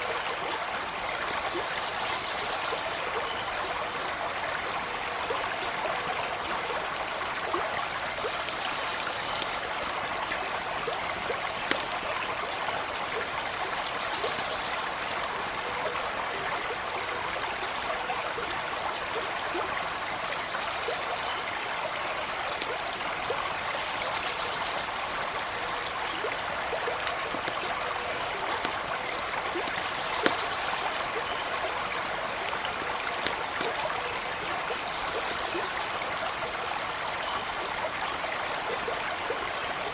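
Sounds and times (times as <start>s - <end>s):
campfire popping and crackling: 0.0s - 19.7s, 20.4s - 39.9s
small stream running: 0.0s - 39.9s.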